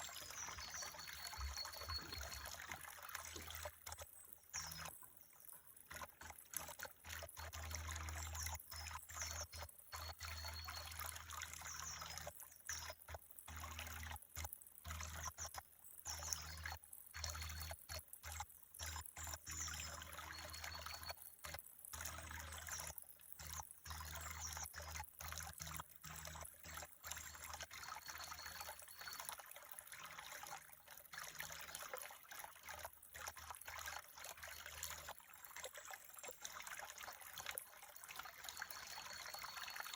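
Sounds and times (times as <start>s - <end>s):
faint trickling stream: 0.0s - 39.9s.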